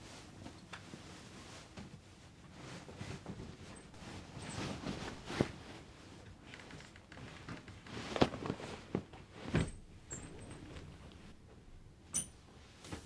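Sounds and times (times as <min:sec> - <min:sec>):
soft rustling: 0:00.3 - 0:12.0.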